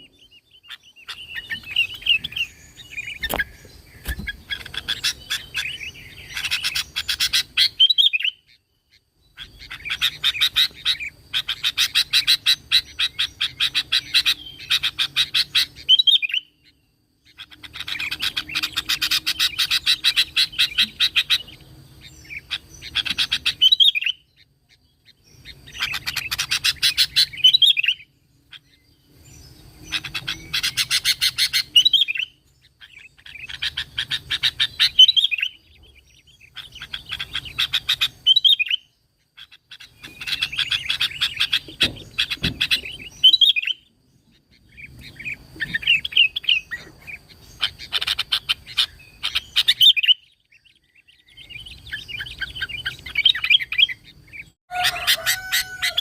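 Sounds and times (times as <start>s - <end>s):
bird singing fast chattering notes: 0.0s - 55.5s.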